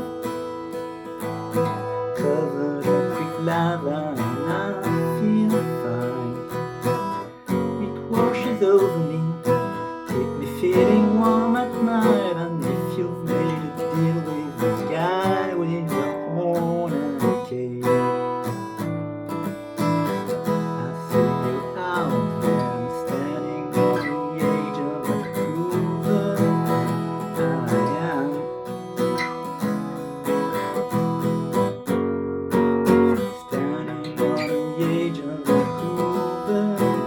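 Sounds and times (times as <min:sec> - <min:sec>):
lead guitar melody bending notes: 0:00.0 - 0:37.0
strummed acoustic guitar chords: 0:00.0 - 0:37.0.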